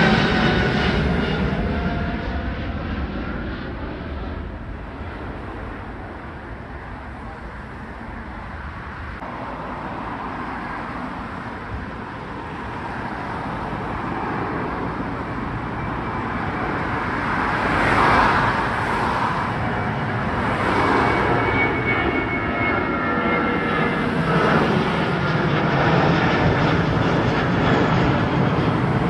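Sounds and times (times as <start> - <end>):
jet engines at takeoff power: 0.0 - 29.0.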